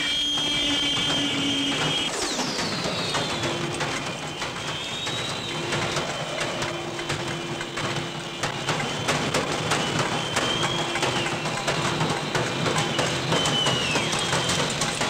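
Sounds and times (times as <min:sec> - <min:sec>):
high wailing tone: 0:00.0 - 0:12.7.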